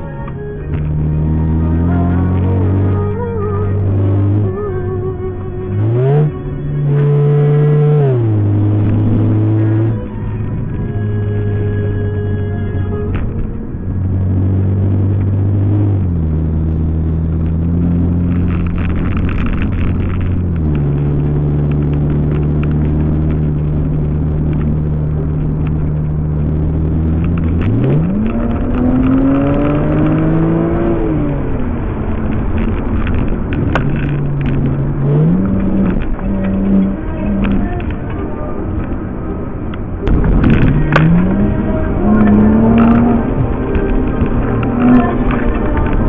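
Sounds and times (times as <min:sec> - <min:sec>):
car engine droning and revving: 0:00.0 - 0:46.0.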